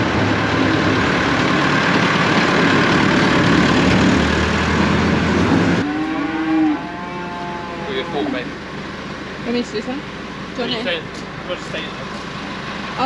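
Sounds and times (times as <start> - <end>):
tractor engine running: 0.0 - 5.9, 7.6 - 13.0.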